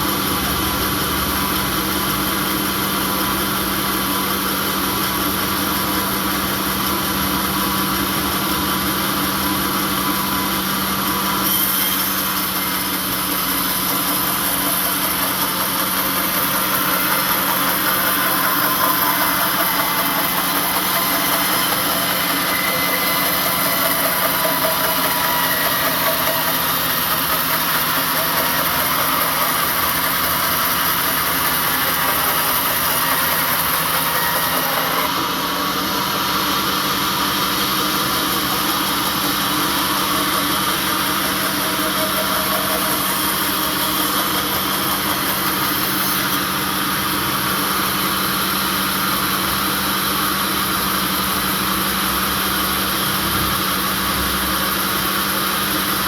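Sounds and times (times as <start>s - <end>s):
sawmill machinery motor hum: 0.0s - 56.0s.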